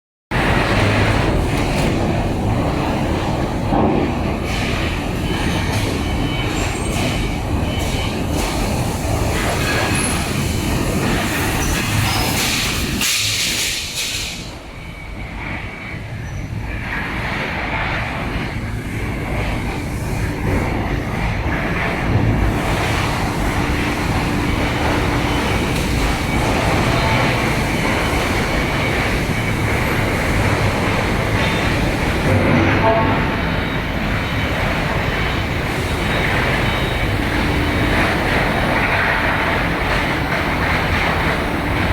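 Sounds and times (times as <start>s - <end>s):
industrial machinery rumble: 0.3s - 41.9s.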